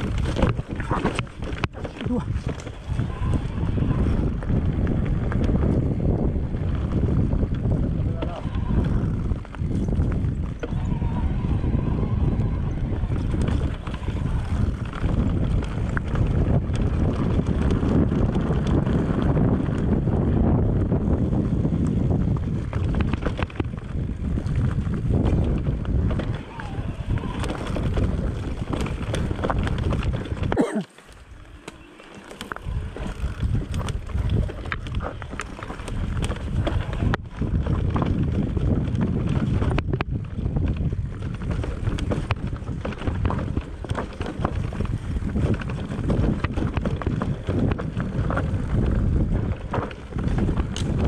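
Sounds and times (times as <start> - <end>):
dirt bike rattling: 0.0 - 51.0
wind buffeting microphone: 0.0 - 51.0.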